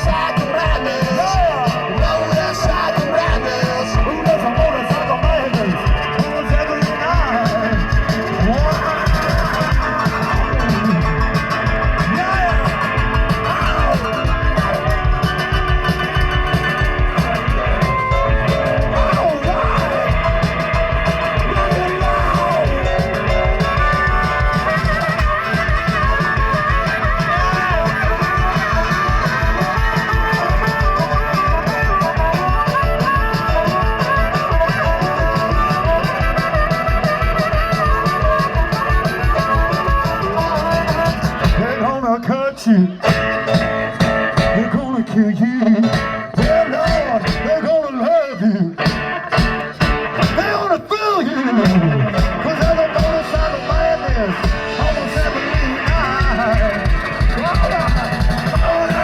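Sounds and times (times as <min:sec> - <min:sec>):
driving drum beat: 0:00.0 - 0:42.3, 0:42.9 - 0:48.1, 0:48.7 - 0:59.0
electric guitar lines: 0:00.0 - 0:47.9, 0:48.8 - 0:59.0.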